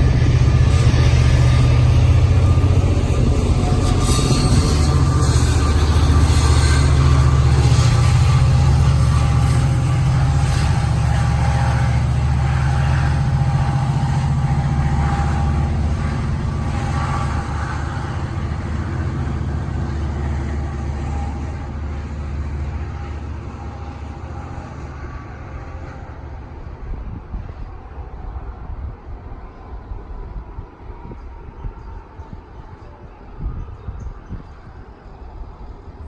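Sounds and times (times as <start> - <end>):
diesel locomotive engine hum: 0.0 - 36.0.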